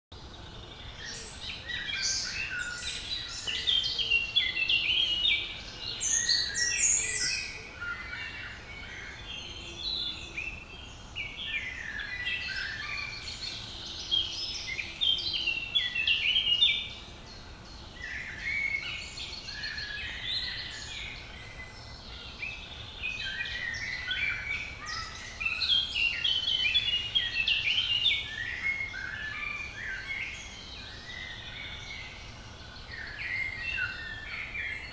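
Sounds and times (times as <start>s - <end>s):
songbirds singing: 0.1s - 34.9s.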